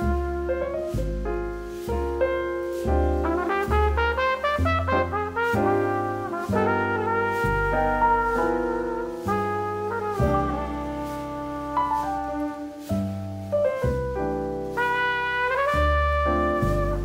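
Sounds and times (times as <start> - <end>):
brass instruments melody: 0.0 - 17.0
low bass line: 0.0 - 17.0.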